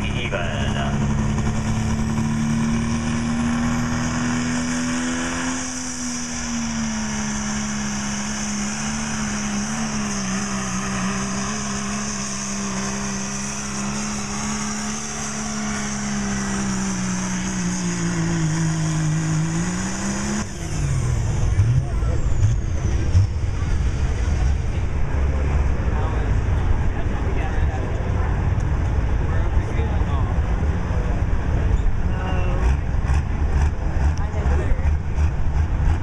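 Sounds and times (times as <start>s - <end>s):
diesel engine at high revs: 0.0s - 36.0s.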